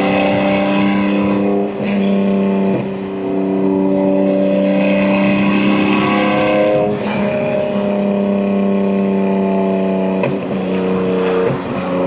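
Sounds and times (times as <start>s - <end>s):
car engine and exhaust driving: 0.0s - 12.0s.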